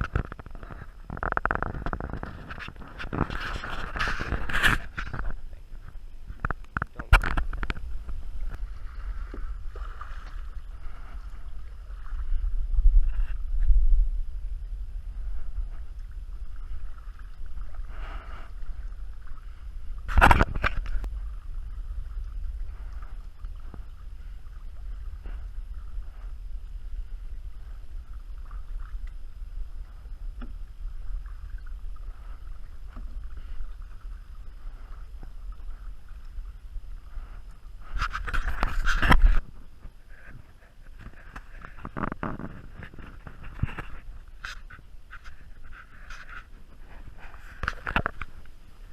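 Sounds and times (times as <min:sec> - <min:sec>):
water around kayak hull: 0:00.0 - 0:48.9
wind rumble on microphone: 0:00.0 - 0:48.9.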